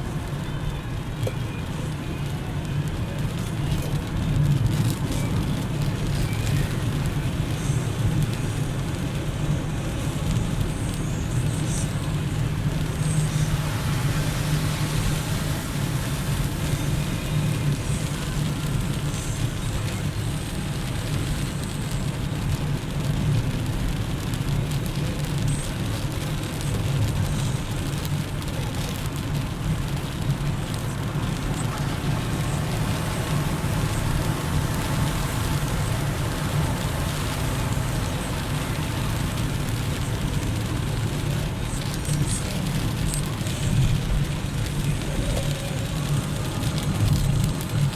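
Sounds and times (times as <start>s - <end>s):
engine and tyre drone: 0.0s - 47.9s
tyres hissing on wet road: 0.0s - 47.9s.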